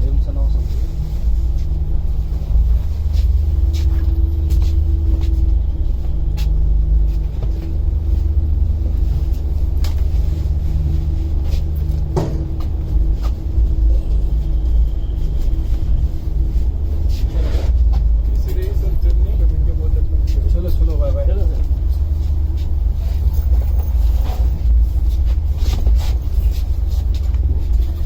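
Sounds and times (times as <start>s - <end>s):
faint engine hum: 0.0s - 28.0s
vehicle rumble from inside: 0.0s - 28.0s.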